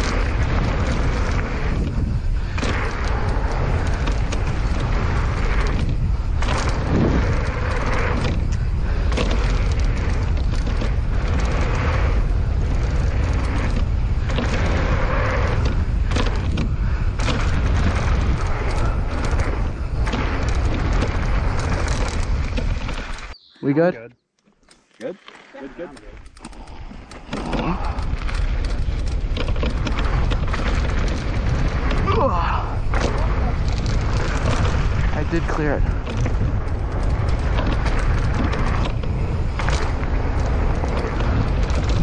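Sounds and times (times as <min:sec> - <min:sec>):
mountain bike rattling on dirt trail: 0:00.0 - 0:23.4, 0:24.8 - 0:42.0
wind buffeting microphone: 0:00.0 - 0:23.4, 0:25.7 - 0:42.0.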